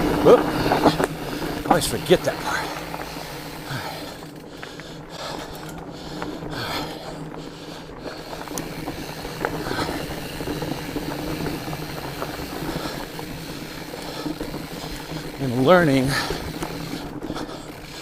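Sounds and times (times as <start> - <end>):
bike tyre noise: 0.0 - 18.0.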